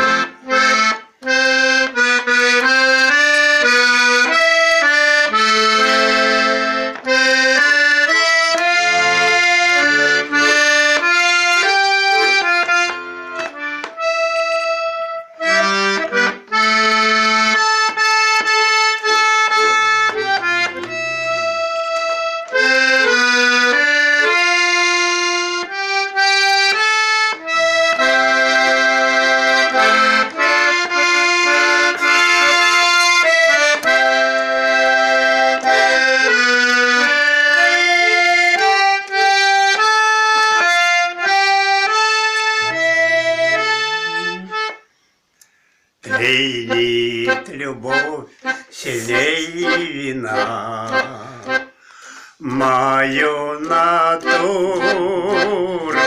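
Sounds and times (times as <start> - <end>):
button accordion playing folk tune: 0.0 - 56.0.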